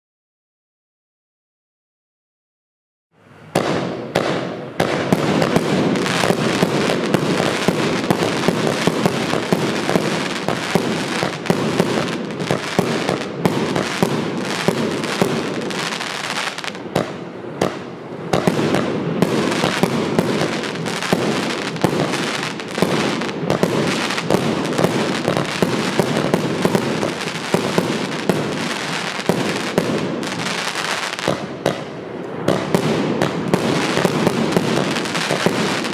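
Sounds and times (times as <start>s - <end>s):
firework barrage with crackling: 3.4s - 35.9s.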